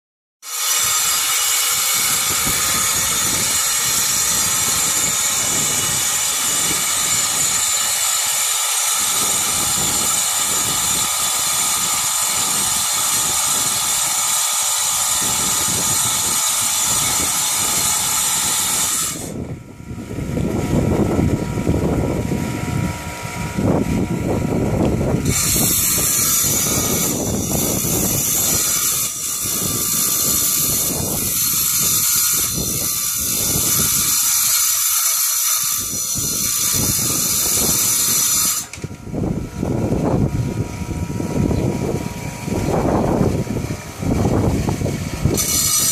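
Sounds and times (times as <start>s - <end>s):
tile saw motor whine: 0.4s - 45.9s
low grinding noise: 0.5s - 45.9s.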